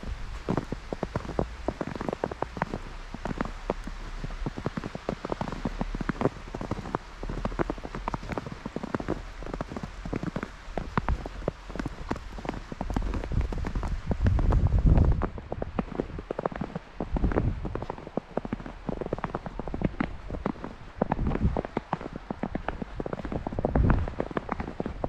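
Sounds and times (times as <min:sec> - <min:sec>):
footsteps crunching through snow: 0:00.0 - 0:25.0.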